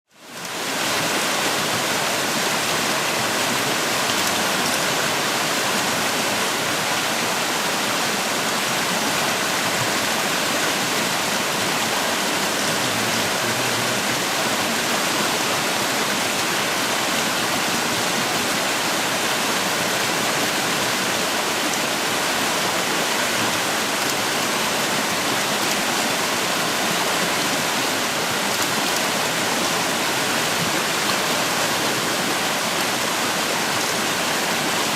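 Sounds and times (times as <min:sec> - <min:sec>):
creek water rushing: 0:00.1 - 0:34.9.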